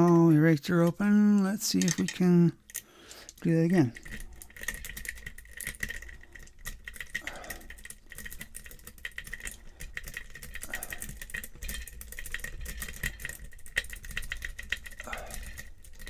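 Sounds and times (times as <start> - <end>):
lock pick clicking pins: 0.8 - 16.0.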